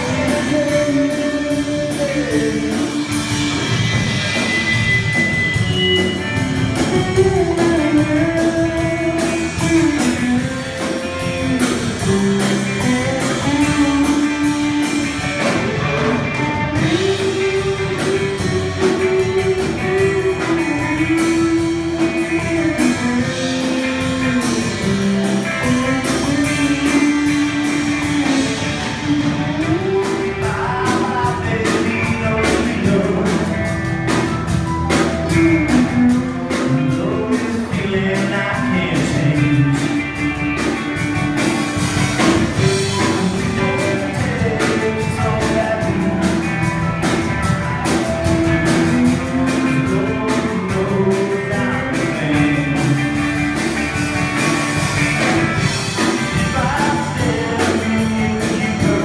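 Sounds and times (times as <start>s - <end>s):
live rock band playing: 0.0s - 59.0s
sustained lead melody: 0.0s - 59.0s.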